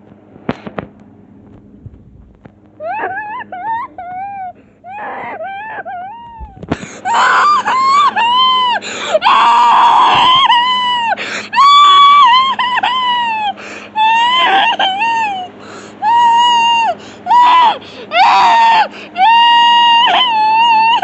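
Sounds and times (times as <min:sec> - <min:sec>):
high-pitched voice screaming: 0:02.8 - 0:21.0.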